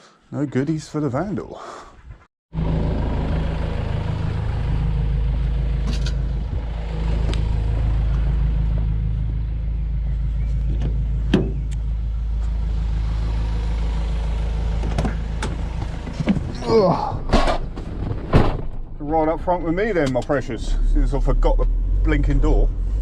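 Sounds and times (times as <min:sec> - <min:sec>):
large vehicle engine droning: 0:02.5 - 0:23.0.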